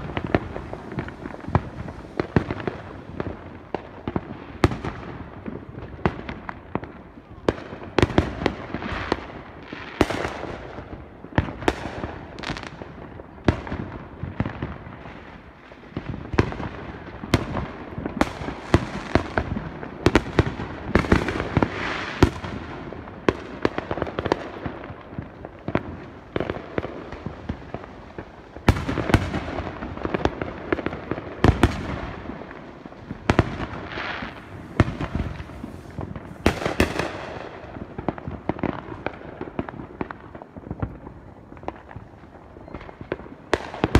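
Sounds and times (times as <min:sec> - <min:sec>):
fireworks bangs and pops: 0:00.0 - 0:43.9
fireworks crackling: 0:00.0 - 0:43.9.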